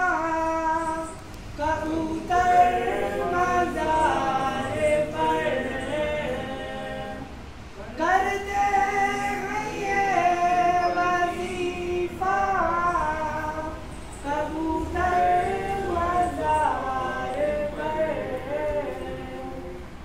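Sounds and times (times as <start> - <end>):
high voice singing: 0.0 - 20.0.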